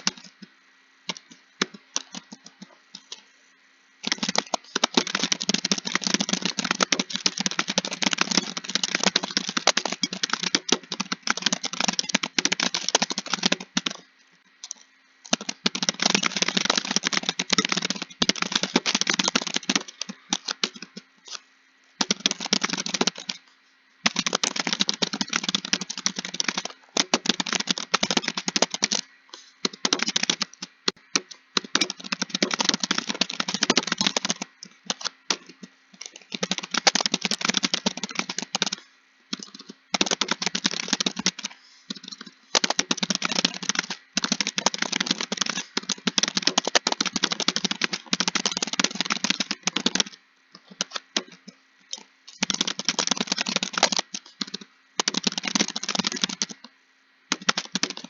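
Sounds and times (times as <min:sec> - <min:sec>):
rapid keyboard typing: 0:00.0 - 0:00.4, 0:01.0 - 0:03.2, 0:04.0 - 0:21.4, 0:22.0 - 0:56.7, 0:57.3 - 0:58.0.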